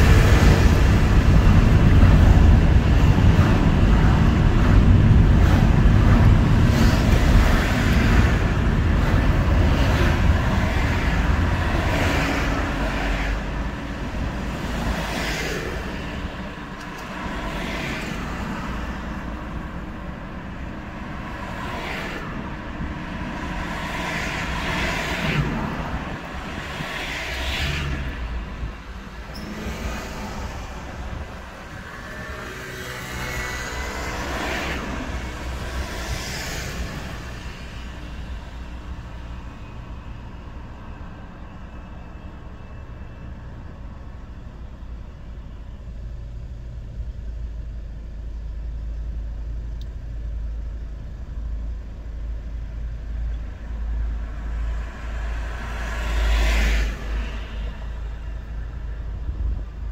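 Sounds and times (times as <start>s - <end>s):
low engine rumble: 0.0s - 32.6s, 33.3s - 56.2s
vehicles swishing by: 0.0s - 59.9s.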